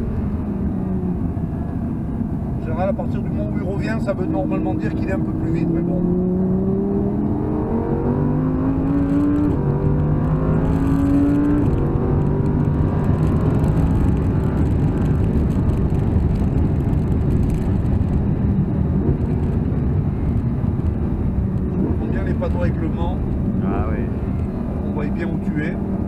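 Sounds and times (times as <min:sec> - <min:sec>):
car engine accelerating: 0:00.0 - 0:26.0
road and wind noise: 0:00.0 - 0:26.0.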